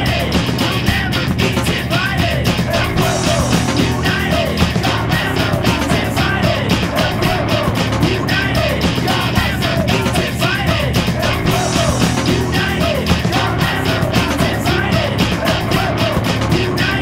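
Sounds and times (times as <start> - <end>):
drums: 0.0 - 17.0
guitar: 0.0 - 17.0
punk rock song: 0.0 - 17.0.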